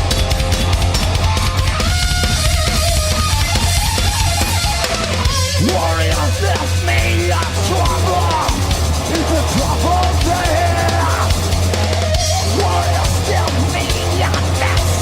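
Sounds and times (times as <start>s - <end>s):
thrash metal band playing: 0.0s - 15.0s.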